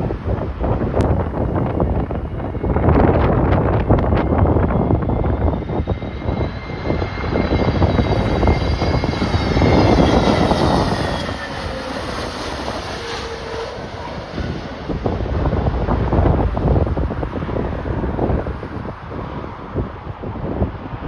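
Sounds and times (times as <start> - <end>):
jet airliner engines whining: 0.0 - 21.0
wind buffeting microphone: 0.0 - 21.0.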